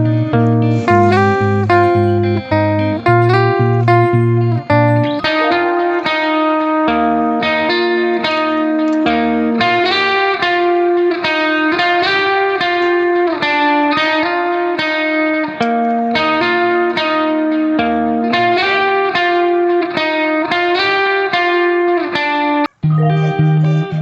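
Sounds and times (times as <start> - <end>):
plucked guitar playing: 0.0 - 24.0.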